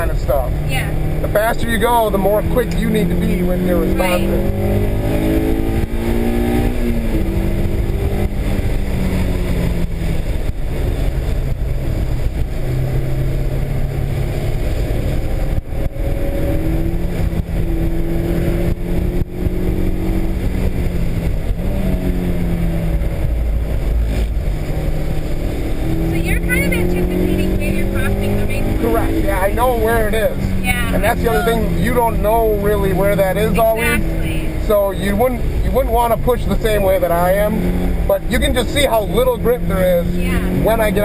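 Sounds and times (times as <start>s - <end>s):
car engine revving and shifting: 0.0s - 41.0s
low road rumble: 0.0s - 41.0s.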